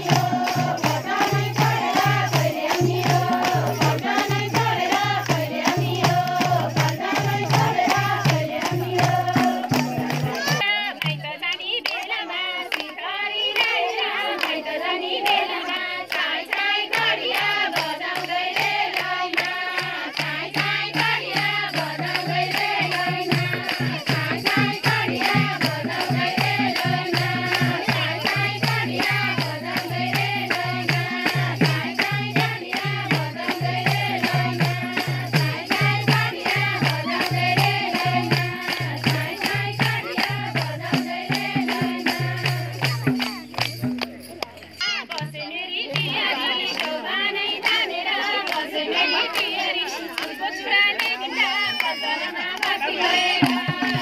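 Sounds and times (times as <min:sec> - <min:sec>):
hands clapping in time: 0:00.0 - 0:14.6, 0:15.2 - 0:54.0
women singing together: 0:00.0 - 0:43.7, 0:44.9 - 0:54.0.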